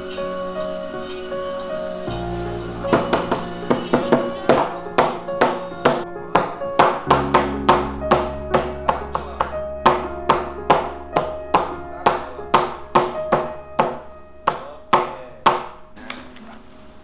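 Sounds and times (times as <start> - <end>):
plucked notes music: 0.0 - 16.0.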